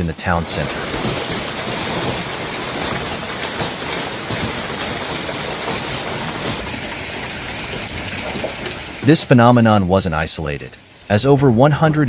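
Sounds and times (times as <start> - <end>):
hail and heavy rain pelting: 0.0 - 11.2.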